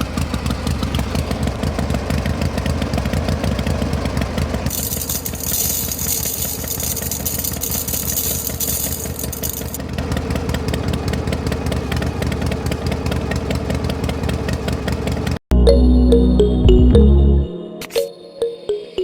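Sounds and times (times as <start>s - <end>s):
small motor knocking: 0.0s - 15.4s.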